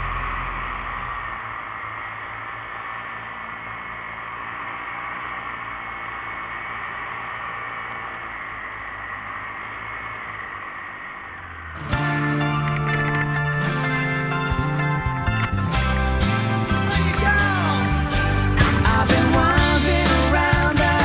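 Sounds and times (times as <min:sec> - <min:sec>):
paramotor engine drone: 0:00.0 - 0:21.0.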